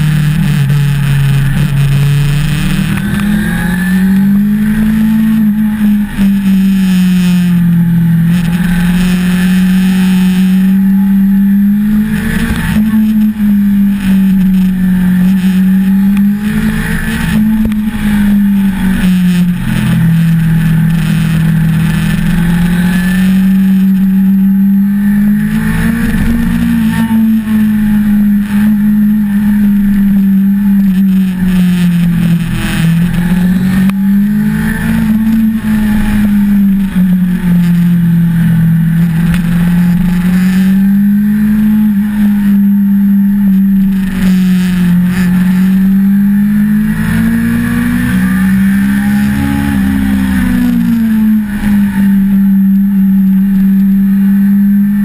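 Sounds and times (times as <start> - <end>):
motorcycle engine pulling uphill: 0.0 - 55.0.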